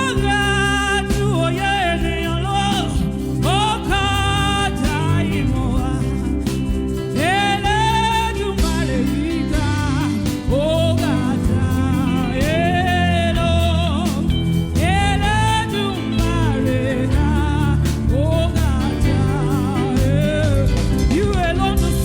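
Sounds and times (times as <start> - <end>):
instrumental backing with bass and drums: 0.0 - 22.0
person singing gospel: 0.0 - 22.0.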